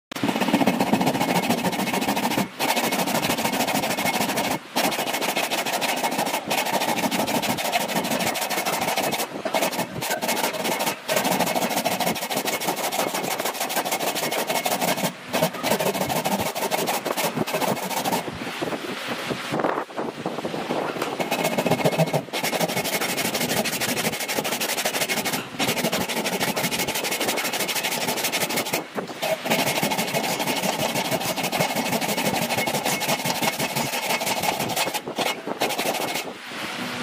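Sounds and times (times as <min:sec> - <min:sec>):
hand saw cutting wood: 0:00.1 - 0:18.2, 0:21.0 - 0:36.3.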